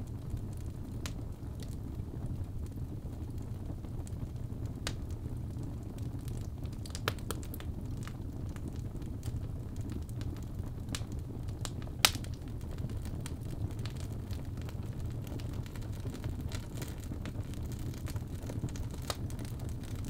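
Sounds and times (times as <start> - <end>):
fire crackling: 0.0 - 20.0
low rumble of flames: 0.0 - 20.0.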